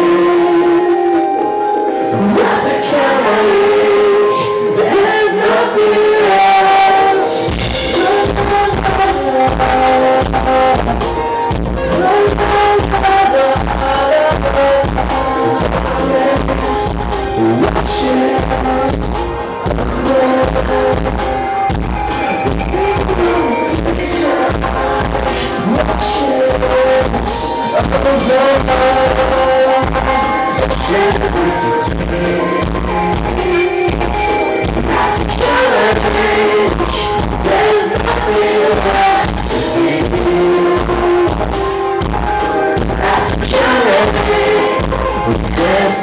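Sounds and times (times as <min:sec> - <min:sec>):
man singing: 0:00.0 - 0:46.0.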